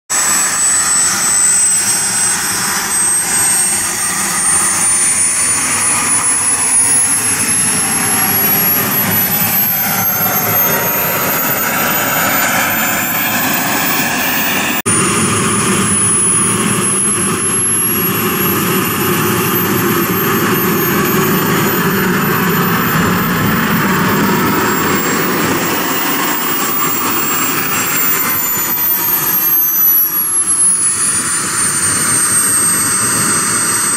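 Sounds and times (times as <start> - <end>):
jet turbine whine: 0.1 - 33.9
steady rushing noise: 0.1 - 33.9.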